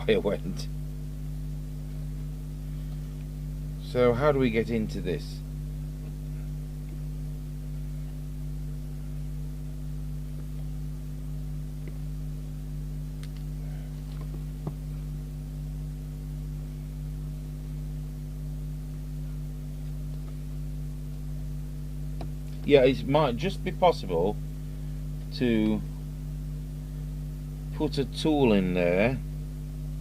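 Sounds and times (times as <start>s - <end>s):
low workshop hum: 0.0s - 30.0s.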